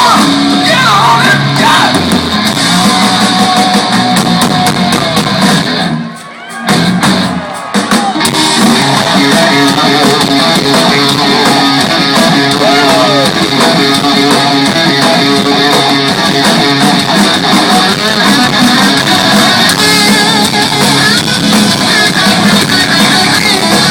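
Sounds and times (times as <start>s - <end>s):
live rock band playing: 0.0s - 23.9s.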